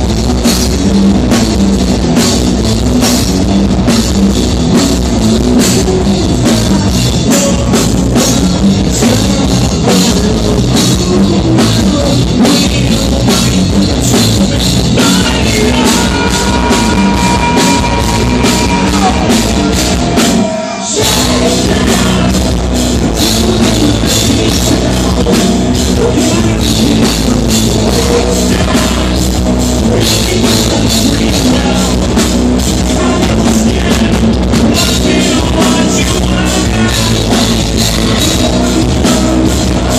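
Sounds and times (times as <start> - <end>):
bass guitar: 0.0 - 39.9
distorted guitars: 0.0 - 39.9
drum kit: 0.0 - 39.9.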